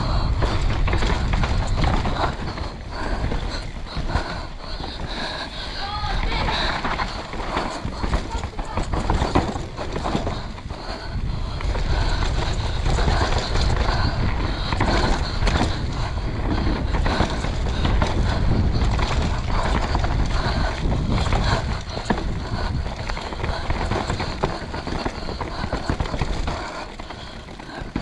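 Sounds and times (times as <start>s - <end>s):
bike rattling over bumps: 0.0s - 28.0s
tyres rolling on loose dirt: 0.0s - 28.0s
wind buffeting microphone: 0.0s - 28.0s.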